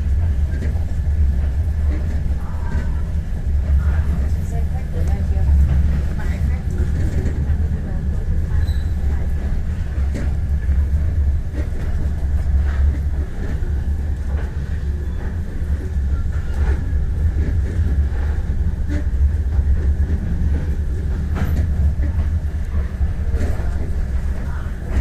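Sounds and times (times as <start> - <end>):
train rumbling at speed: 0.0 - 25.0
wheels clicking on track: 0.0 - 25.0.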